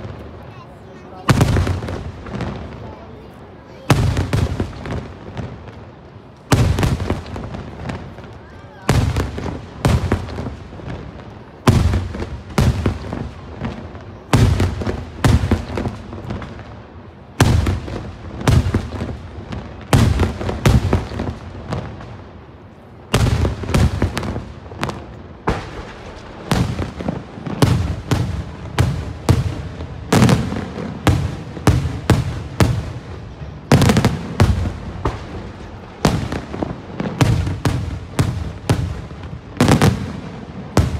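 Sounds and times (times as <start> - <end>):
fireworks bangs echoing: 0.0 - 40.9.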